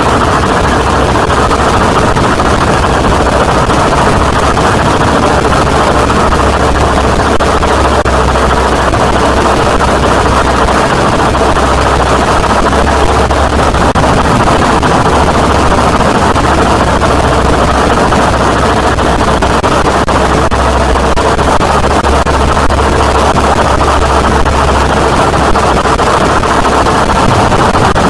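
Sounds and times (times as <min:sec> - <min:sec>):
distorted noise music: 0:00.0 - 0:28.0
low rumble: 0:00.0 - 0:28.0.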